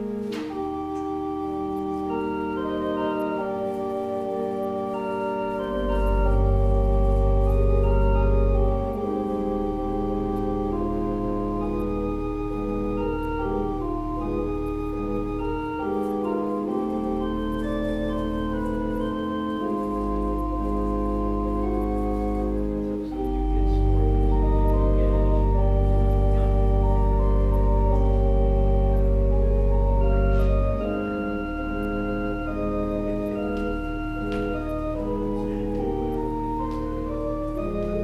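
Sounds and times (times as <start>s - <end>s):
organ playing sustained chords: 0.0s - 38.0s
deep organ bass note: 4.2s - 38.0s.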